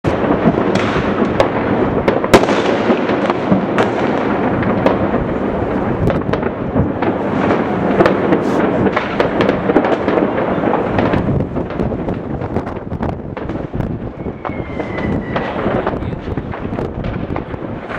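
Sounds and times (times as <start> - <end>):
fireworks and firecrackers banging: 0.0 - 17.9.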